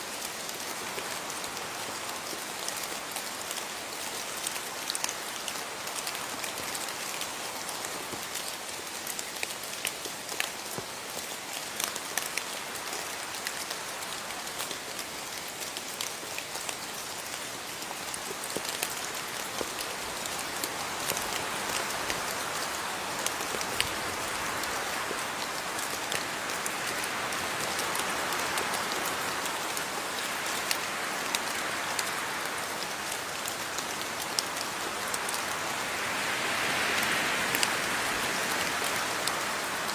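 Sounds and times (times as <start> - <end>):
rain drops ticking on surface: 0.0 - 39.9.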